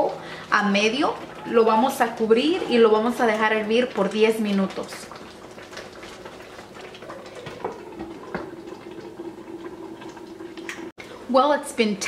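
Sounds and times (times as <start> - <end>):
broth simmering and bubbling: 0.0 - 12.0.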